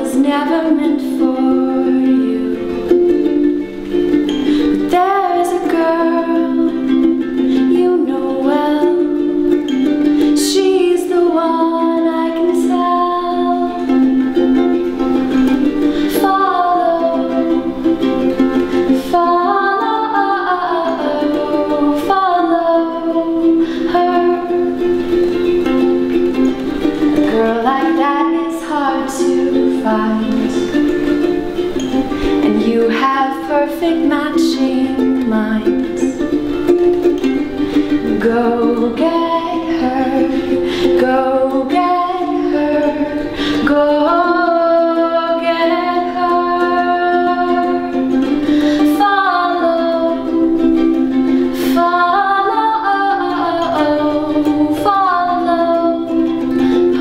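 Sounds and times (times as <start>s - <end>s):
ukulele strumming chords: 0.0s - 57.0s
woman singing: 0.0s - 57.0s.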